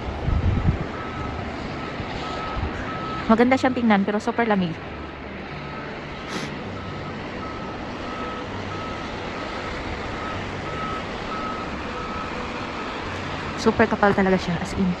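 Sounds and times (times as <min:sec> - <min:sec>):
vehicle engine running: 0:00.0 - 0:15.0
reversing alarm beeping: 0:00.9 - 0:14.8.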